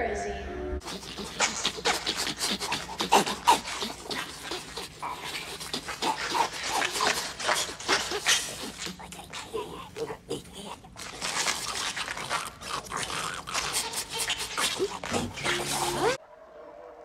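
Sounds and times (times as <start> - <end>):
creature squeaks and grunts: 0.8 - 16.2.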